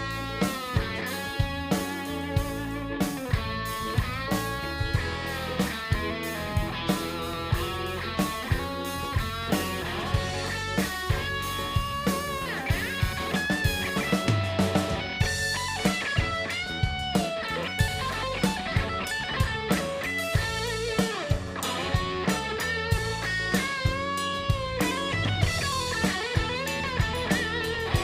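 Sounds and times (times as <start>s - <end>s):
electric guitar lead: 0.0s - 28.0s.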